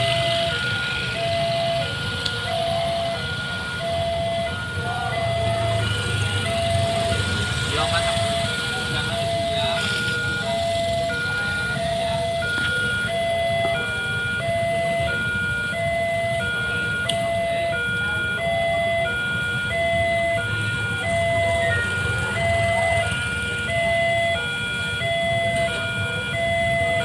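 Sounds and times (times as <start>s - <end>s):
level crossing two-tone alarm: 0.0s - 27.0s
motorcycle engines idling: 0.0s - 27.0s.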